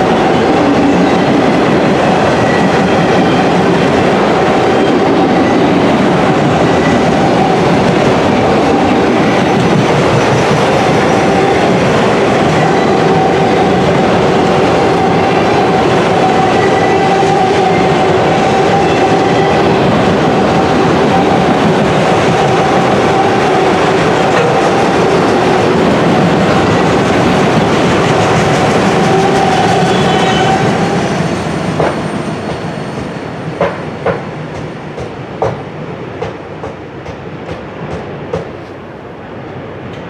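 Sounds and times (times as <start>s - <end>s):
freight cars rumbling on rails: 0.0s - 38.7s.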